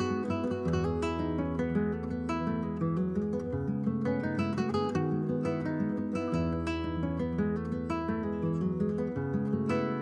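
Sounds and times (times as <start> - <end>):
acoustic guitar picking: 0.0 - 10.0.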